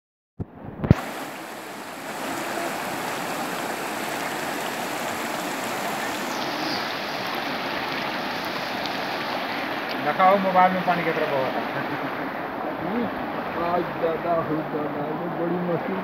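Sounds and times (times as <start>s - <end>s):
floodwater rushing over road: 0.9s - 16.0s.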